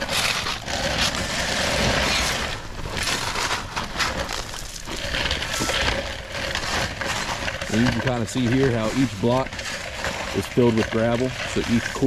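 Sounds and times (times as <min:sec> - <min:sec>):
shovel crunching gravel: 0:00.0 - 0:12.0.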